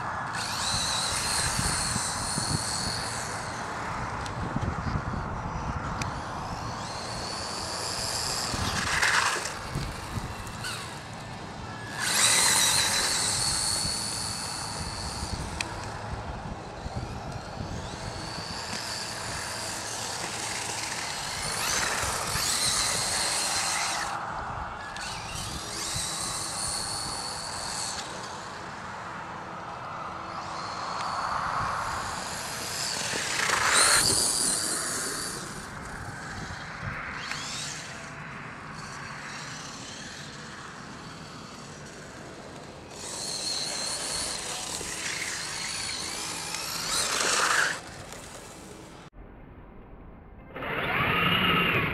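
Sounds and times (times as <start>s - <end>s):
electric motor and gears whining: 0.0s - 49.1s, 50.5s - 51.9s.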